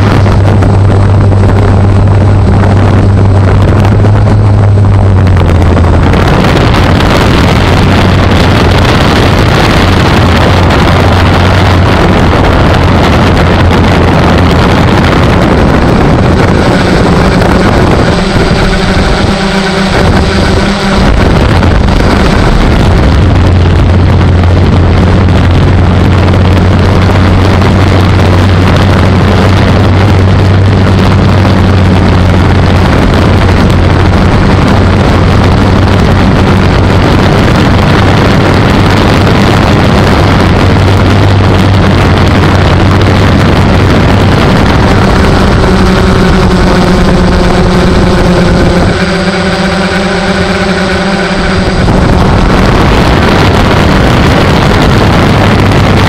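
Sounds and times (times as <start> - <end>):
drone motors buzzing: 0.0 - 56.0
propeller air rushing: 0.0 - 56.0.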